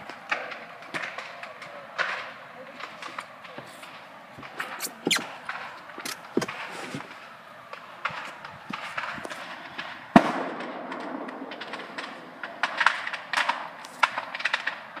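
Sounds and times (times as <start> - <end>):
fire popping and cracking: 0.0 - 15.0.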